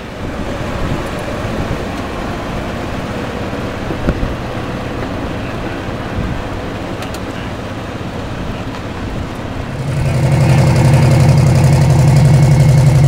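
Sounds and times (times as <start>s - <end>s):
slow vehicle rumbling: 0.0s - 13.0s.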